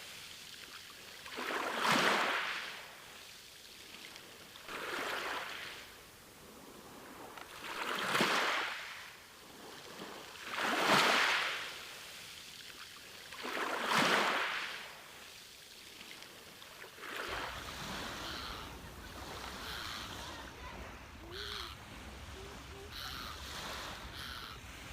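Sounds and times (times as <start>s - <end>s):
sea waves breaking on beach: 0.0s - 24.9s.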